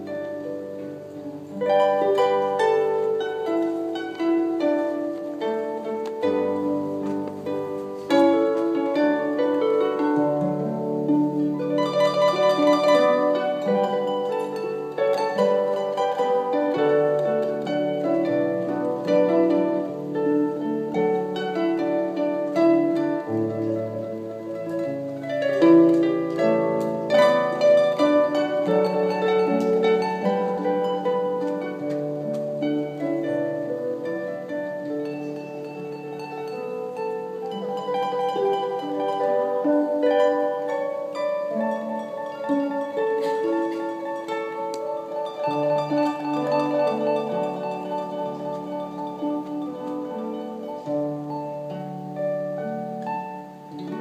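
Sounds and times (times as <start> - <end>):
harp playing a melody: 0.0 - 54.0.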